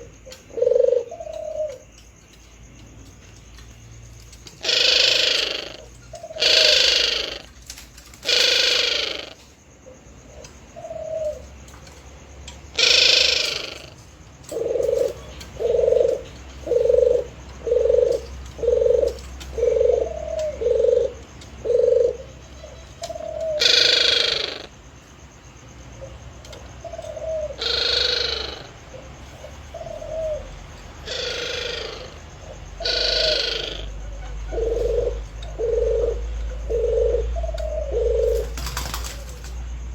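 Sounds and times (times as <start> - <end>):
harsh dove coos: 0.0 - 2.1, 4.4 - 11.7, 12.7 - 24.8, 25.9 - 39.9
doves cooing: 0.0 - 39.9.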